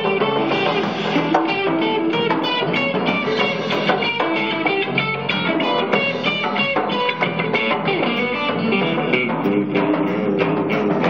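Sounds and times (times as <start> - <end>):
electric guitar playing quick notes: 0.0 - 10.4
bass and drums: 0.0 - 11.0.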